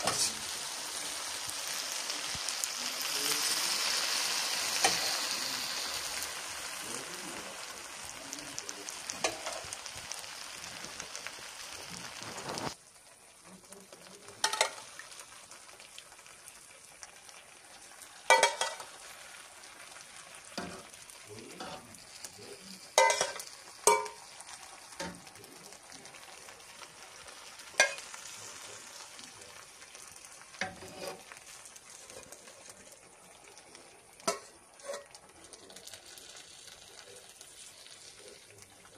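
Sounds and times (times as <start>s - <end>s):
food sizzling in pan: 0.0s - 38.9s.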